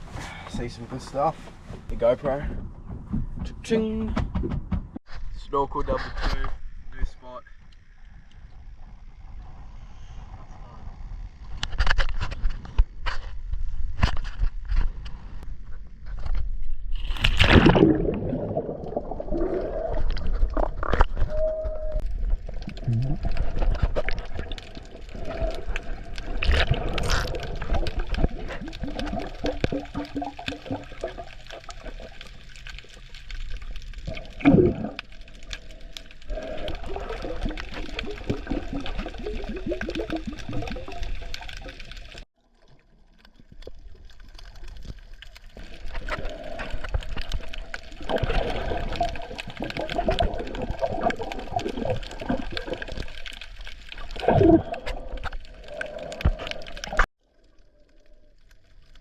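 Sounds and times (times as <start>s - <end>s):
water sloshing underwater: 6.0s - 59.0s.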